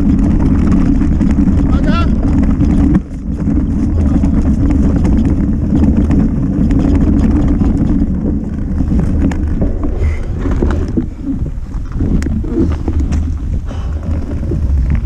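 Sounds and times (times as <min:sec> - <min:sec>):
mountain bike rattling: 0:00.0 - 0:15.0
wind rumbling on microphone: 0:00.0 - 0:15.0.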